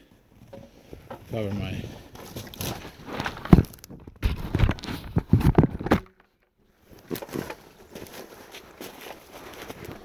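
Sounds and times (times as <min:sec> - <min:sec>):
crunching footsteps: 0:01.3 - 0:10.0.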